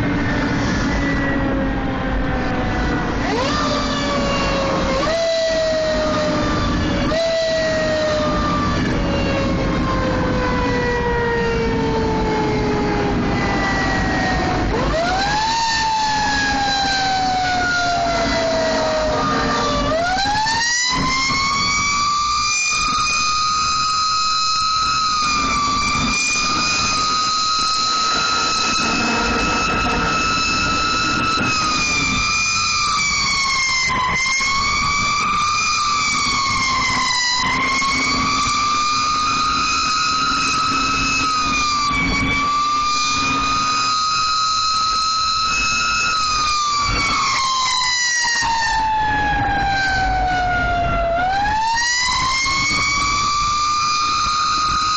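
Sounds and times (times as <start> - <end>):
emergency siren wailing: 0.0 - 54.9.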